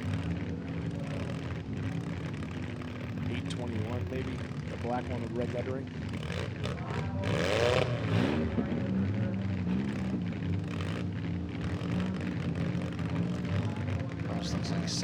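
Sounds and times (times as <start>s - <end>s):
car engines idling and revving: 0.0s - 15.0s.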